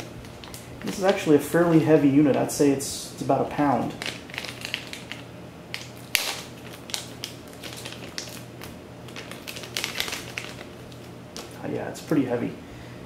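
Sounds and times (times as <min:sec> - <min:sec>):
plastic bag crinkling: 0:00.0 - 0:02.6, 0:03.5 - 0:11.7.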